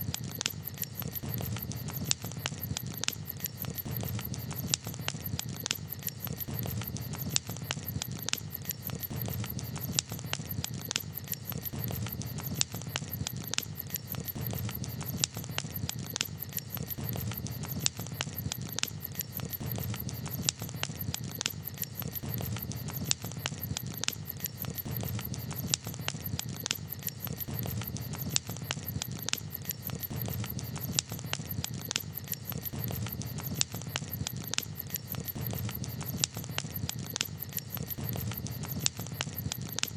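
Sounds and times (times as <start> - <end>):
campfire crackling pops: 0.0 - 39.9.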